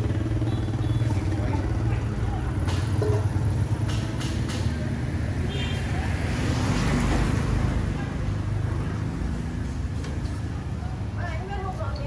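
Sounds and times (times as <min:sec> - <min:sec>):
motorbike traffic hum: 0:00.0 - 0:12.0.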